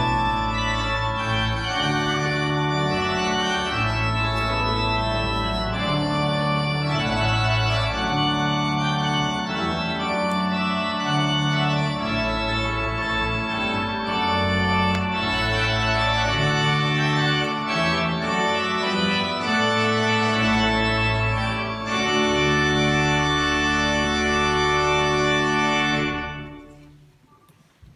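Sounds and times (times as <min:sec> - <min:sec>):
church organ chords: 0:00.0 - 0:27.0.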